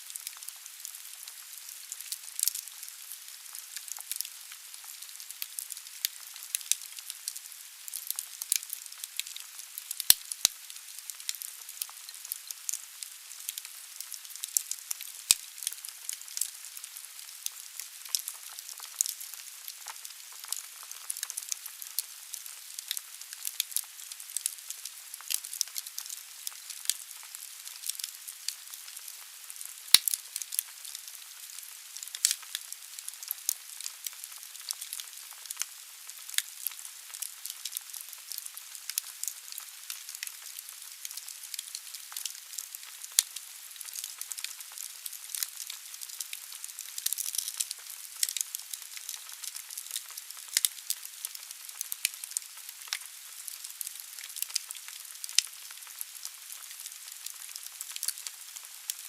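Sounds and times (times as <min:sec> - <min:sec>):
wood crackling and popping: 0:00.1 - 0:16.8, 0:17.4 - 0:30.8, 0:31.4 - 0:53.6, 0:54.2 - 0:59.0.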